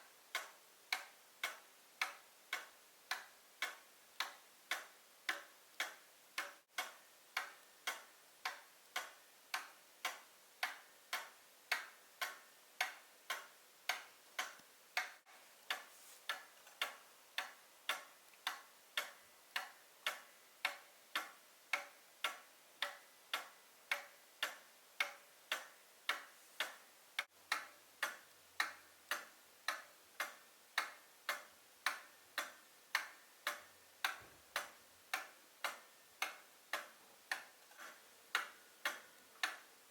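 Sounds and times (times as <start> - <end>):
clock pendulum ticking: 0.0 - 39.9.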